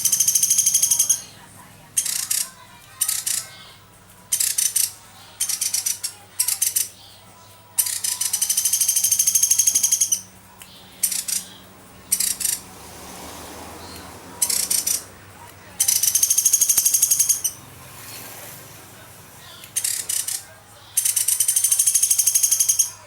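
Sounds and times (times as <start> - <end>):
woodpecker trilling rattle calls: 0.0 - 7.1, 7.8 - 18.4, 19.4 - 23.0.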